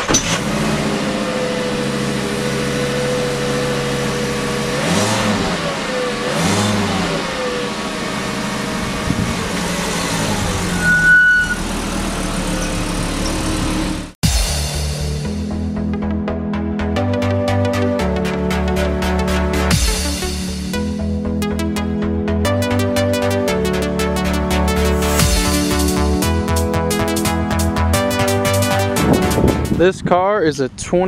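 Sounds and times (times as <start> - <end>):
car engine idling and revving: 0.0 - 29.7.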